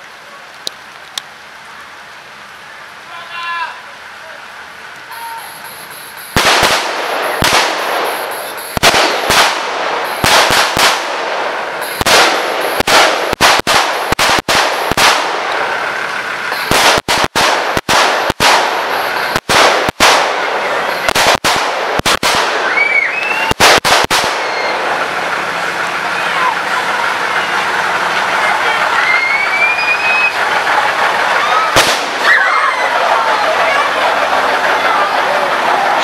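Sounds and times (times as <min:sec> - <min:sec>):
pyrotechnic bangs: 0:05.1 - 0:36.0.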